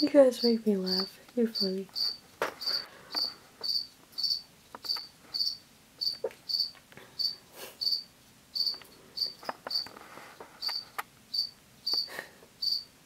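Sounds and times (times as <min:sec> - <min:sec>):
cricket chirping: 0:00.4 - 0:09.9, 0:10.6 - 0:12.9.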